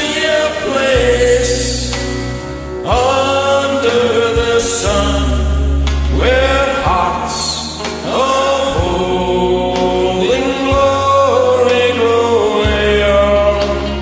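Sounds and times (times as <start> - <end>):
man singing long notes: 0.0 - 2.1, 2.8 - 14.0
karaoke backing track: 0.0 - 14.0.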